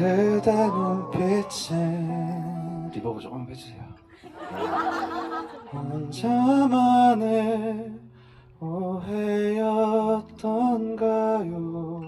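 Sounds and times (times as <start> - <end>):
man singing a slow ballad: 0.0 - 3.7, 5.6 - 12.0
soft acoustic guitar: 0.0 - 12.0.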